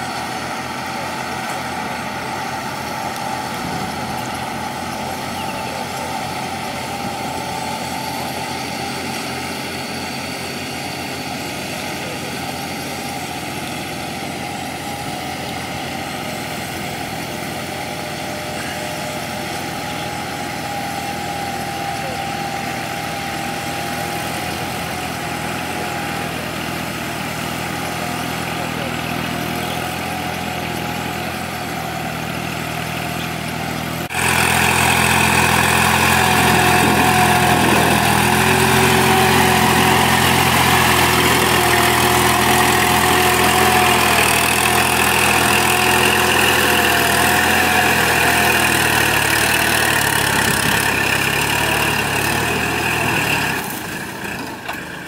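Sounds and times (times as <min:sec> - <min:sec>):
tractor diesel engines running: 0:00.0 - 0:55.0.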